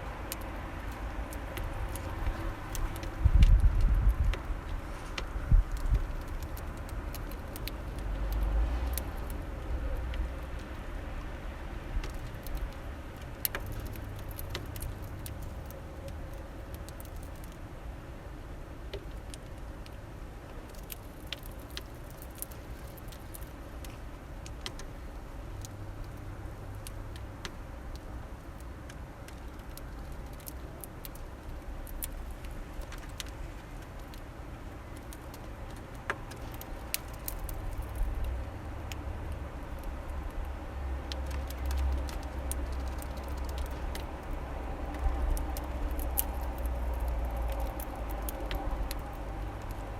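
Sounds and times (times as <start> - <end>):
low steady rumble: 0.0 - 49.9.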